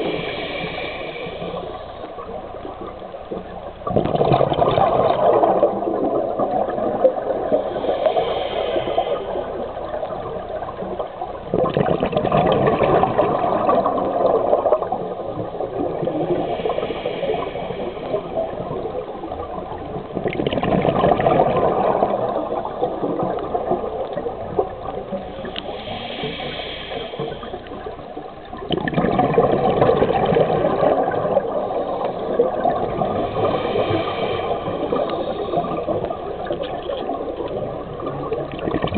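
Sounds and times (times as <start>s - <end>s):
hissing inhale through regulator: 0.0s - 3.8s, 5.5s - 11.5s, 13.4s - 20.2s, 21.6s - 28.6s, 30.8s - 38.4s
exhaled bubbles rushing: 0.0s - 25.8s, 27.4s - 38.9s.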